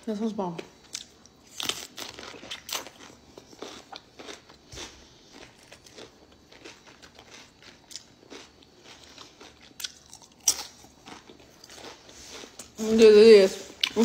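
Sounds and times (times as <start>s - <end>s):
crunching cucumber: 0.9s - 12.8s.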